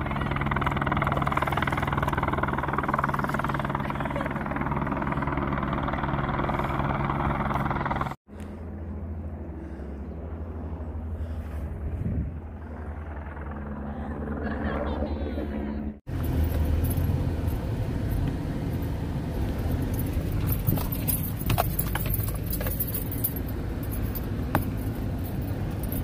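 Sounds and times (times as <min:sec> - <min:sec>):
helicopter rotor chopping: 0:00.0 - 0:26.0
low rumble: 0:00.0 - 0:26.0.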